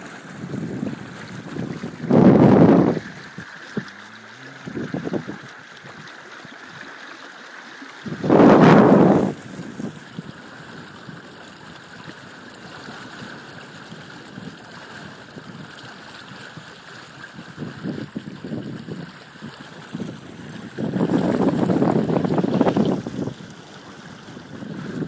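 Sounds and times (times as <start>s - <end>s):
wind on microphone: 0.0s - 6.2s, 8.0s - 25.0s
water rushing along hull: 0.0s - 25.0s.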